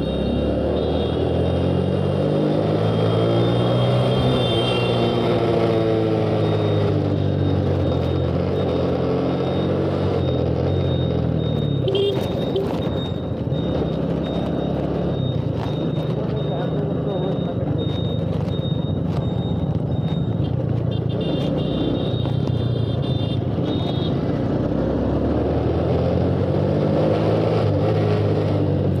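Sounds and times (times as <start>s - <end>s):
road and wind noise: 0.0s - 29.0s.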